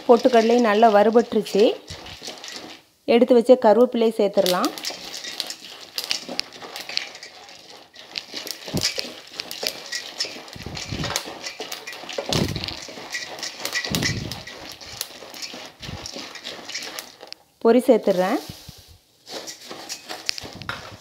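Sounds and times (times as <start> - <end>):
lentils rattling against metal pan: 0.0 - 21.0
light crackling of frying: 0.0 - 21.0.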